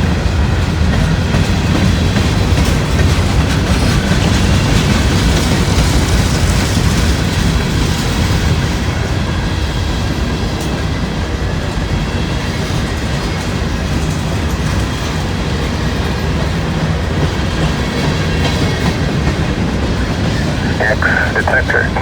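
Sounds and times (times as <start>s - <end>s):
train wheels rumbling on rail: 0.0s - 20.5s.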